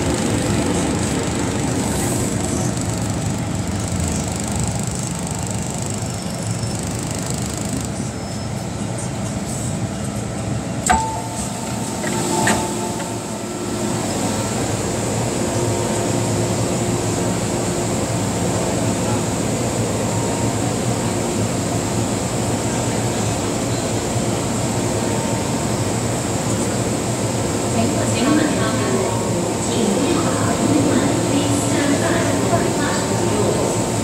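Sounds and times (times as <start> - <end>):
metro train rumble and whine: 0.0 - 34.0.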